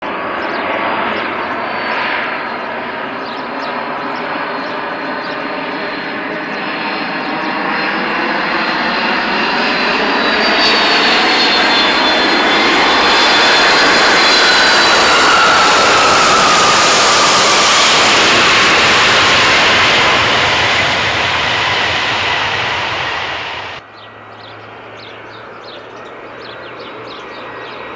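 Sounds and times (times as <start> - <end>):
jet engines whining: 0.1 - 27.9.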